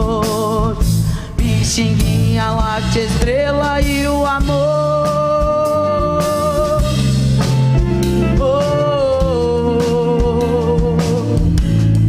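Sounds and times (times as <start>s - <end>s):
person singing: 0.0s - 11.6s
bass guitar: 0.0s - 12.0s
drum kit: 0.0s - 12.0s
electric guitars: 0.0s - 12.0s.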